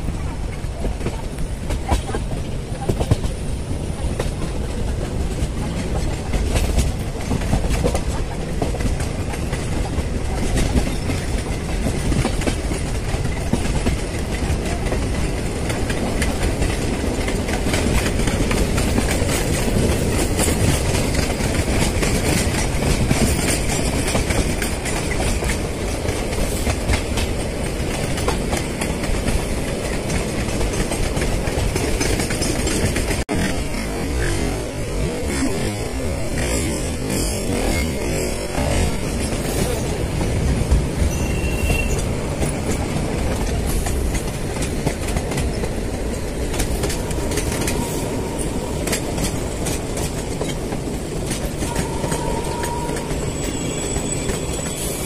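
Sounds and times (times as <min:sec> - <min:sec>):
train rumbling: 0:00.0 - 0:55.0
train wheels clattering on rails: 0:00.0 - 0:55.0.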